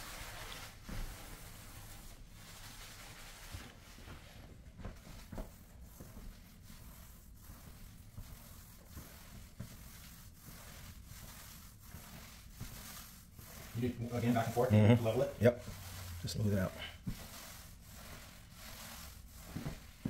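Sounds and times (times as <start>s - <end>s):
roller rolling and squishing: 0.0s - 20.0s.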